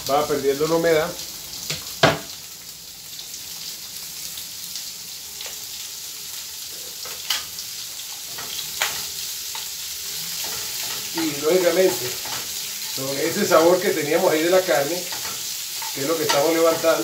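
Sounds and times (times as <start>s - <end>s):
onion sizzling in pan: 0.0s - 17.0s.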